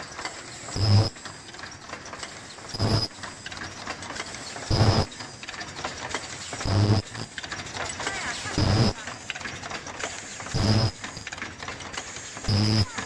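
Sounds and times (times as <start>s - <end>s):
machinery mechanical clatter: 0.0s - 13.0s.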